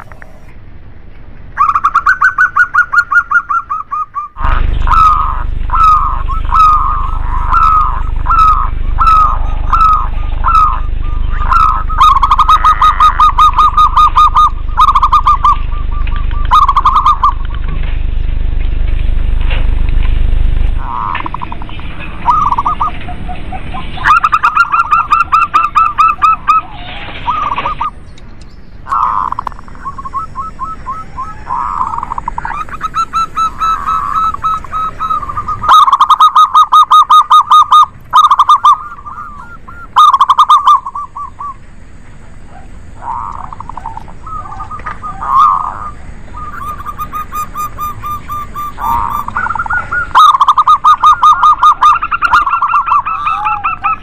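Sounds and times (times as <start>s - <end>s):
doves cooing trilled phrases: 1.3s - 54.0s.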